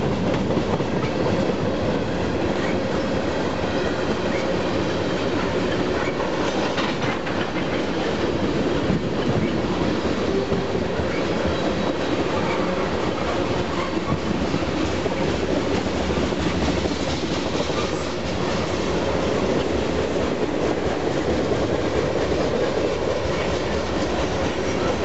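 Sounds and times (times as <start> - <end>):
train wheels rumbling on rails: 0.0 - 25.0
wheels clacking over rail joints: 0.0 - 25.0.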